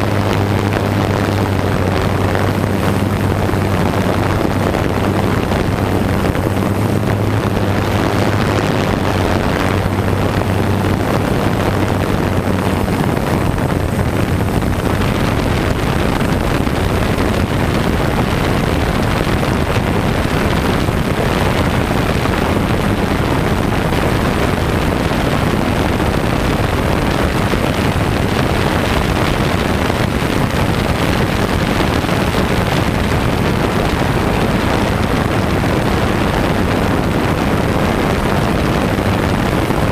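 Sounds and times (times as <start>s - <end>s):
drone propellers buzzing: 0.0s - 39.9s
low hum: 0.0s - 39.9s
wind on microphone: 0.0s - 39.9s.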